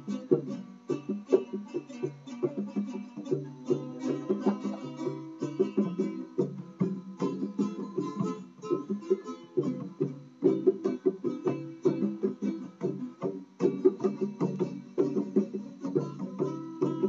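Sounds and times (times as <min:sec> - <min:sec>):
guitar picking and strumming: 0:00.0 - 0:17.0.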